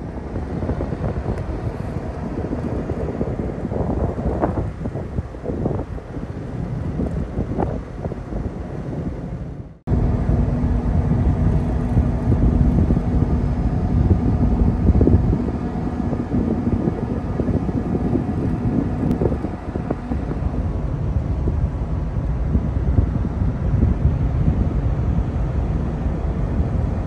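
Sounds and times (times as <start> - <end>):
faint steady hum: 0.0 - 27.0
wind buffeting microphone: 0.0 - 27.0.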